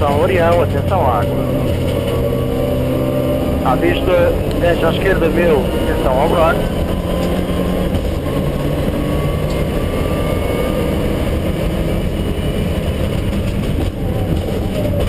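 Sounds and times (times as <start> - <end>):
road and tyre noise: 0.0 - 15.0
turbocharged car engine: 0.0 - 15.0.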